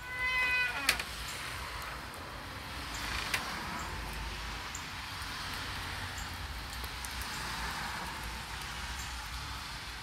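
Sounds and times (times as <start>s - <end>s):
rain falling on pavement: 0.0s - 10.0s
single raindrop ticks: 0.7s - 9.6s.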